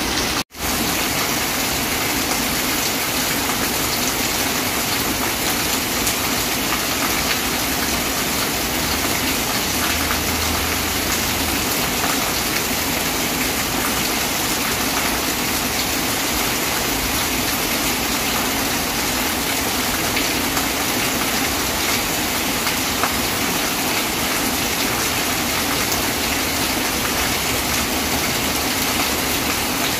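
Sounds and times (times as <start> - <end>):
heavy rain on pavement and roofs: 0.0 - 29.9.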